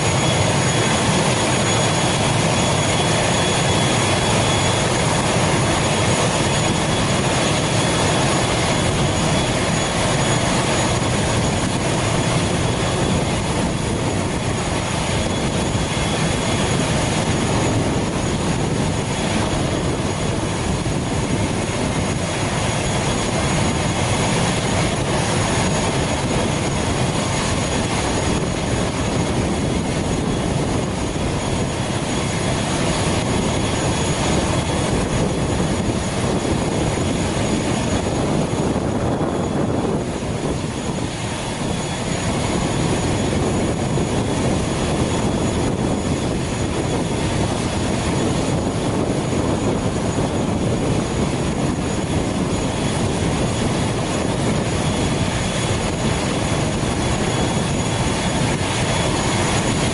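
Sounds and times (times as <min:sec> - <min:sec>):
turboprop engine running: 0:00.0 - 0:59.9.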